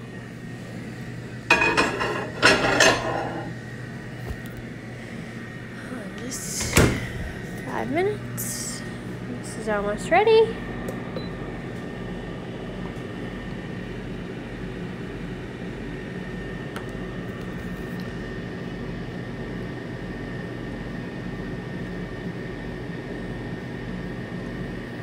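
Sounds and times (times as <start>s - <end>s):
air fryer fan hum: 0.0s - 25.0s.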